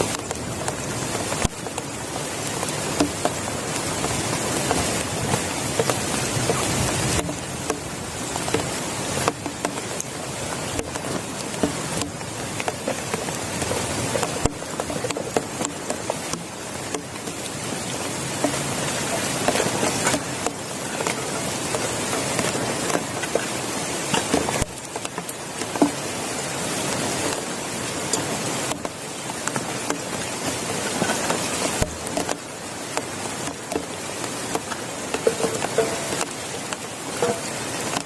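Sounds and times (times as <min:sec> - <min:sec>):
heavy rain falling: 0:00.0 - 0:38.0
raindrops ticking on surface: 0:00.0 - 0:38.0.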